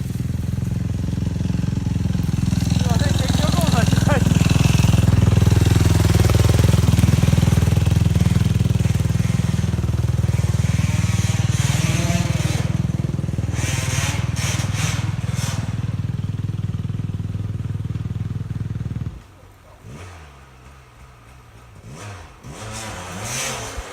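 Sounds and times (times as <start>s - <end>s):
off-road vehicle engine running: 0.0s - 23.9s.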